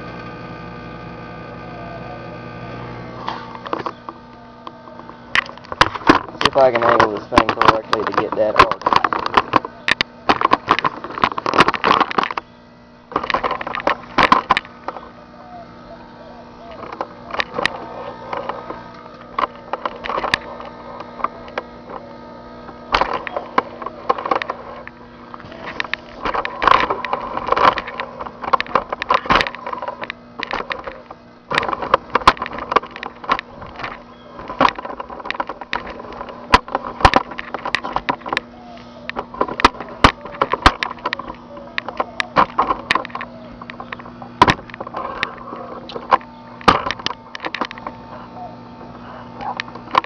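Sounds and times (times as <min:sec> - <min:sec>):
microwave oven humming: 0:00.0 - 0:50.0.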